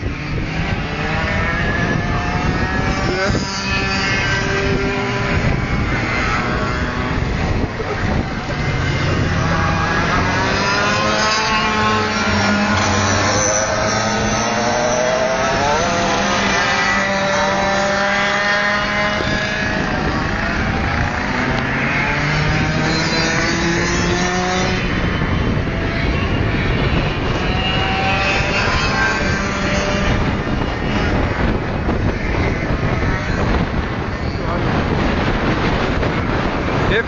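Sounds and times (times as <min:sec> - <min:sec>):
racing kart engines: 0:00.0 - 0:37.0.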